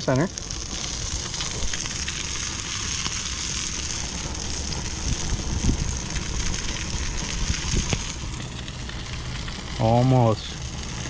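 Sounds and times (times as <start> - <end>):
fish sizzling: 0.0 - 11.0
low rumble: 0.2 - 11.0.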